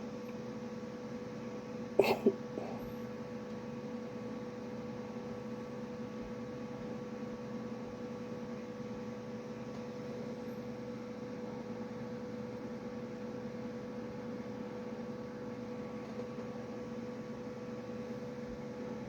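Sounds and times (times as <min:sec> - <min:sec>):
computer fan humming: 0:00.0 - 0:19.0.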